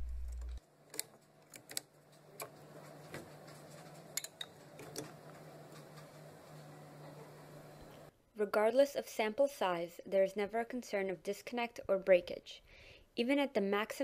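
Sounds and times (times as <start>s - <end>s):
faint steady hum: 0.0s - 13.2s.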